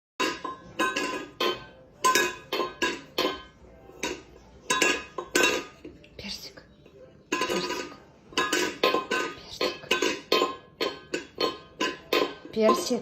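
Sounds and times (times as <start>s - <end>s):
food bowl clattering: 0.2s - 13.0s.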